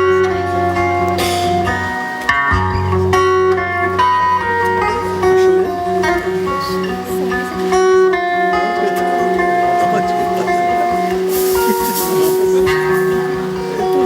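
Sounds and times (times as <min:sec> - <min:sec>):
picked string melody over drone: 0:00.0 - 0:14.0.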